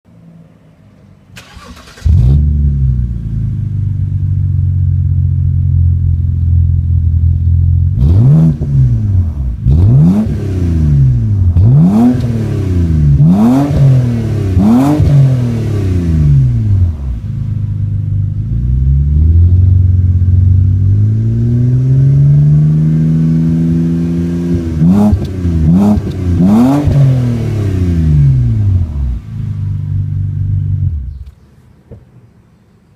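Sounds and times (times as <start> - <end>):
car engine idling and revving: 0.1 - 32.0.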